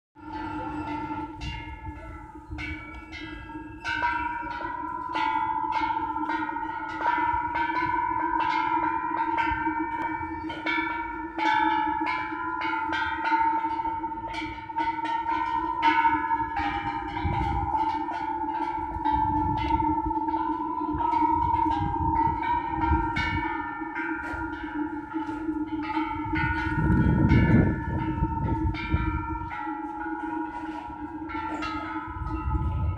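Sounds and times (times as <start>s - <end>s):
temple bells ringing: 0.2s - 32.9s.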